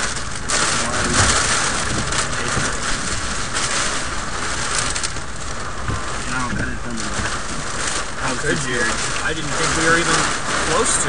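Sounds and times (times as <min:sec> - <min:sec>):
gusting wind: 0:00.0 - 0:11.0
heavy rain hitting car: 0:00.0 - 0:11.0.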